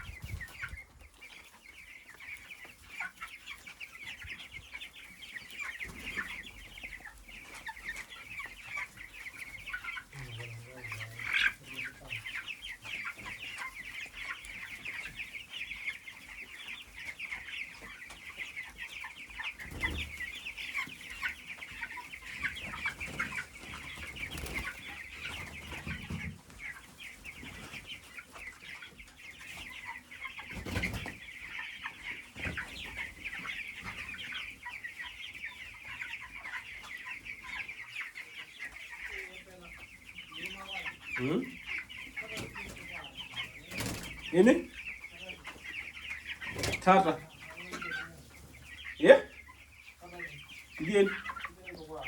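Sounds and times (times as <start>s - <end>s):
flock of chickens calling: 0.0s - 52.0s.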